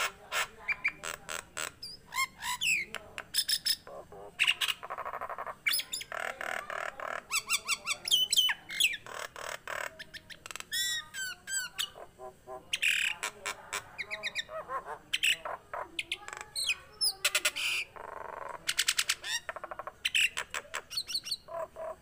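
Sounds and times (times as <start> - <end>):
myna bird calling: 0.0 - 22.0.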